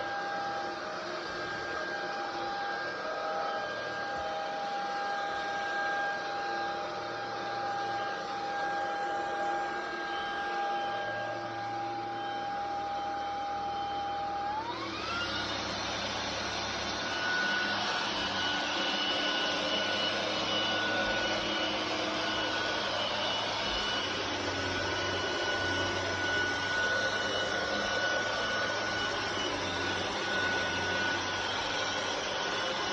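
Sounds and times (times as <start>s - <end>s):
vacuum airflow noise: 0.0s - 32.9s
vacuum motor whine: 0.0s - 32.9s.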